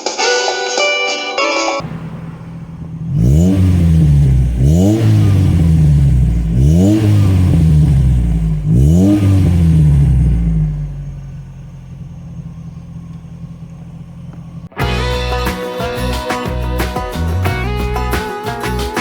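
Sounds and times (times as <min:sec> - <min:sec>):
car engine revving: 0:01.8 - 0:18.9
engine idling: 0:01.8 - 0:19.0.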